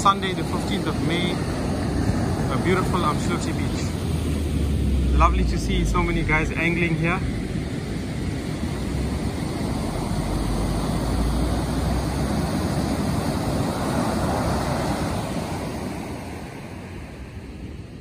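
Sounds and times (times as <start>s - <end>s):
surf washing up a beach: 0.0s - 18.0s
wind rumbling on microphone: 0.0s - 18.0s.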